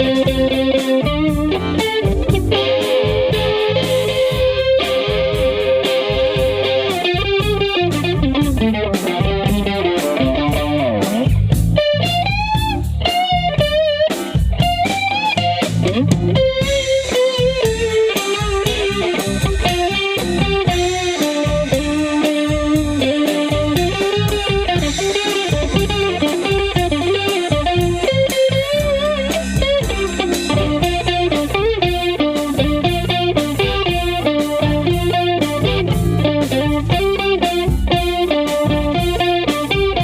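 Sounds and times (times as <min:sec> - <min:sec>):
electric guitar lead melody: 0:00.0 - 0:40.0
low rhythm backing: 0:00.0 - 0:40.0.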